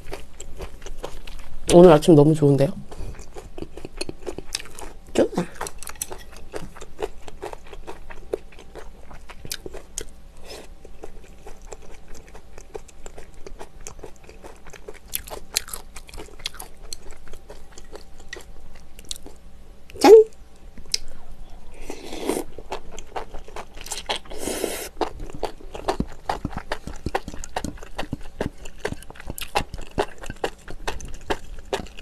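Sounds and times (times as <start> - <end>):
food chewing and crunching: 0.0 - 19.4, 20.9 - 32.0.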